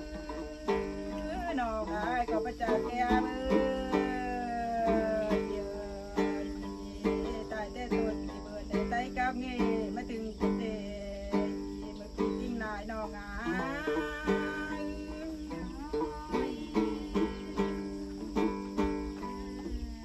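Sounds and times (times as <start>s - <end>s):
person singing folk song: 0.0s - 20.0s
plucked lute chords: 0.0s - 20.0s.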